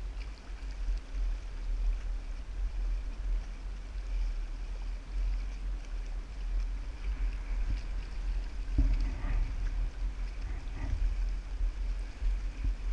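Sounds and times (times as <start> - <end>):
water rushing along kayak hull: 0.0 - 12.9
wind buffeting microphone: 1.3 - 12.9.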